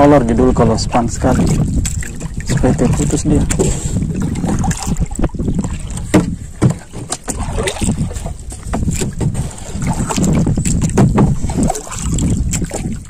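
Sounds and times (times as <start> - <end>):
wind rumbling on microphone: 0.0 - 13.0
water sloshing around paddle: 0.8 - 13.0
paddle knocking wooden gunwale: 1.1 - 13.0.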